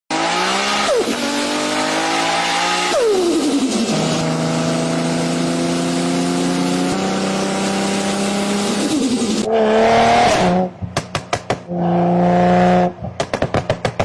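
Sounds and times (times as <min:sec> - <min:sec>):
car engine accelerating hard: 0:00.1 - 0:10.8, 0:11.7 - 0:13.1.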